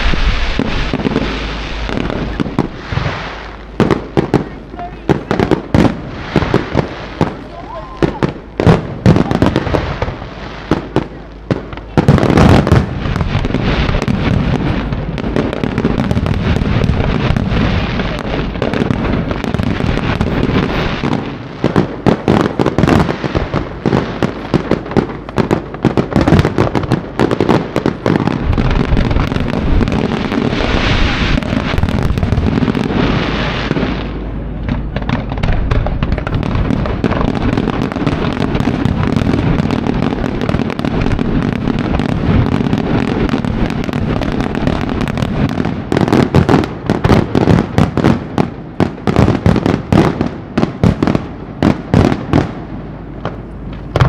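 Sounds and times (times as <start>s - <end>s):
hissing crackle: 0.0s - 50.5s
fireworks bangs and crackle: 0.0s - 54.0s.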